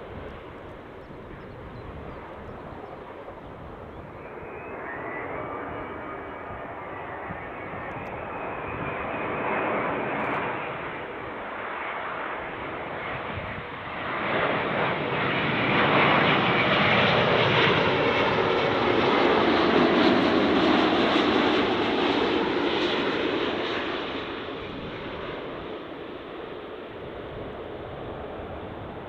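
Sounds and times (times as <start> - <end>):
jet airliner engine and rushing air: 0.0 - 29.0.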